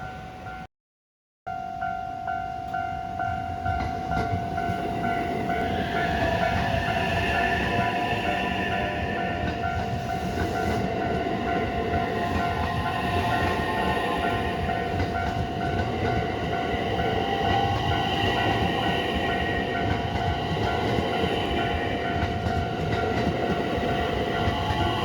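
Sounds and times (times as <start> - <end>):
level crossing warning bell: 0.0 - 0.7, 1.5 - 25.0
train wheels rumbling on rails: 2.7 - 25.0.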